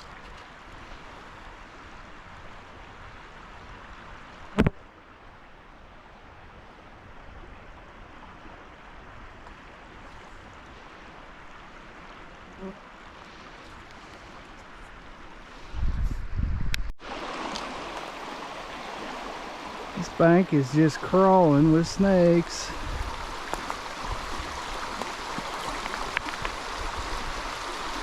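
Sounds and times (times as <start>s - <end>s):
creek water rushing: 0.0s - 15.7s, 17.0s - 28.0s.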